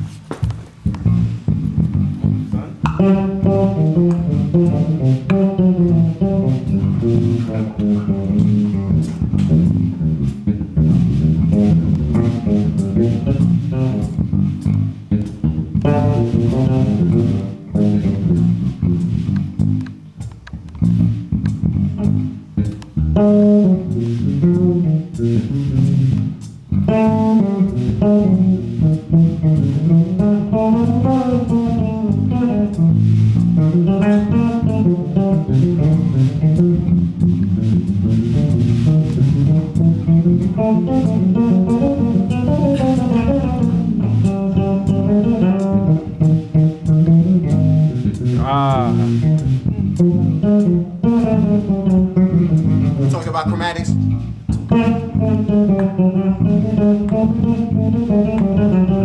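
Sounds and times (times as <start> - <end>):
electric bass guitar notes: 0.0 - 59.0.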